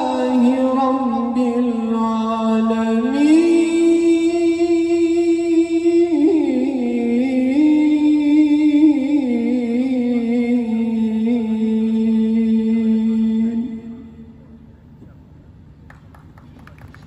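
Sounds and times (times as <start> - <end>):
man chanting through loudspeakers: 0.0 - 14.7.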